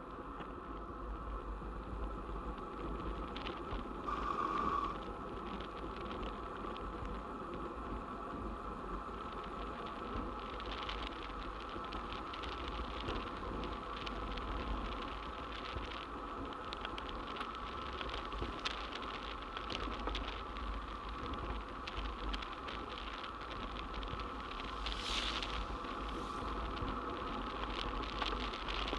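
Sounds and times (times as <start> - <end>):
bicycle tyre noise on asphalt: 0.0 - 28.9
wind rush on microphone: 0.0 - 28.9.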